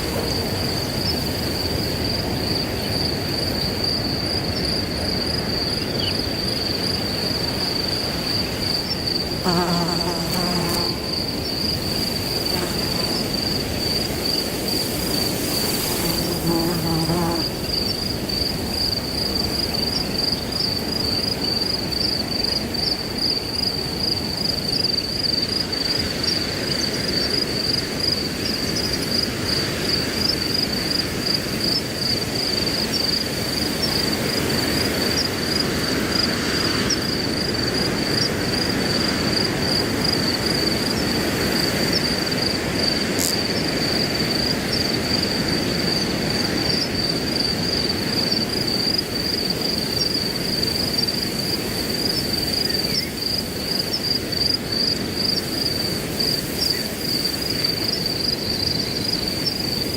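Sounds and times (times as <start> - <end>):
crickets chirping: 0.0 - 59.9
wind through grass: 0.0 - 59.9.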